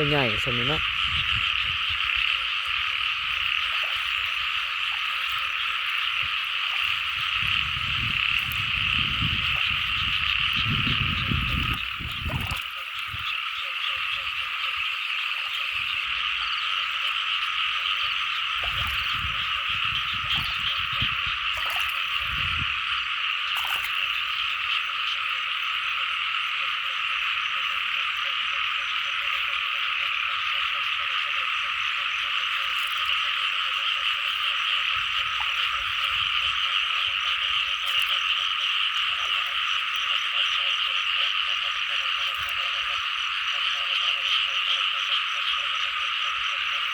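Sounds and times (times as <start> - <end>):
frogs chorus: 0.0 - 46.9.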